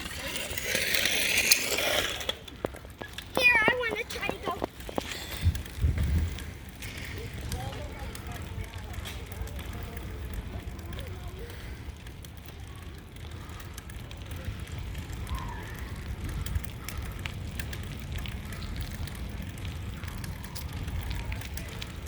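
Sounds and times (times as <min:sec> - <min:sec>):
small clicks and crackles: 0:00.0 - 0:22.0
wind buffeting microphone: 0:02.5 - 0:22.0.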